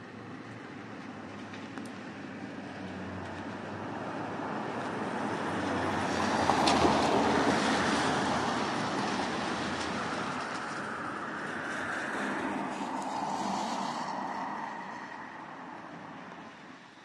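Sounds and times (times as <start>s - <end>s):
vehicle passing on wet street: 0.0s - 17.0s.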